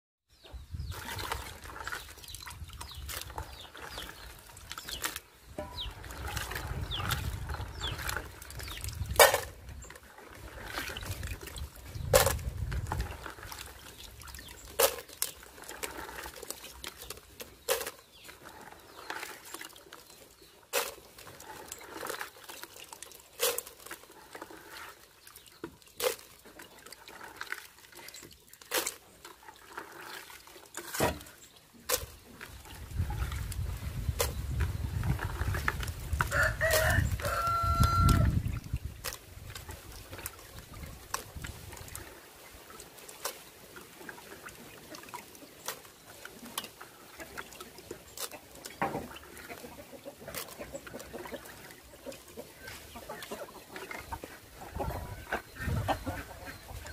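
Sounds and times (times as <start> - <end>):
water splashing and dribbling: 0.3 - 56.9.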